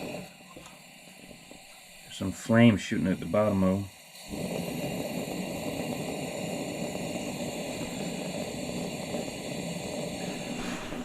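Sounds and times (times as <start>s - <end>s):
pressure lantern hissing: 0.0s - 11.0s.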